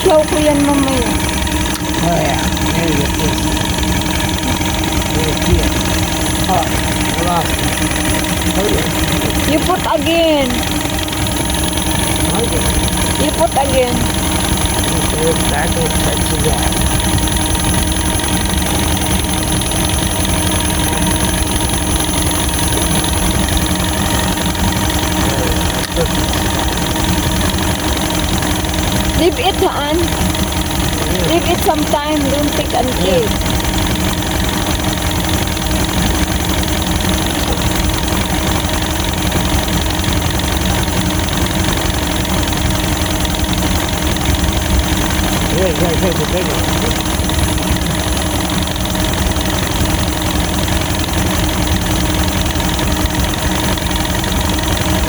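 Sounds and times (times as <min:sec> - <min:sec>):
boat motor idling: 0:00.0 - 0:55.0.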